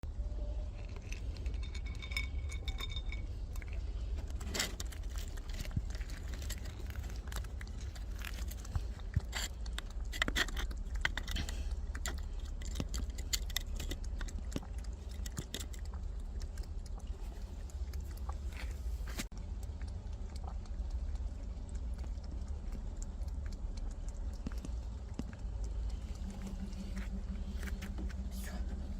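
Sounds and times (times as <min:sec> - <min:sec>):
steady low rumble: 0:00.0 - 0:28.9
cat chewing food: 0:00.5 - 0:28.9.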